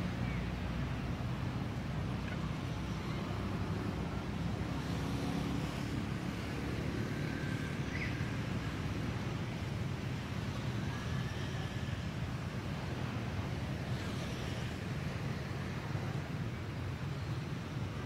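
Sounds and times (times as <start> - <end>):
outdoor background rumble and hiss: 0.0 - 18.0.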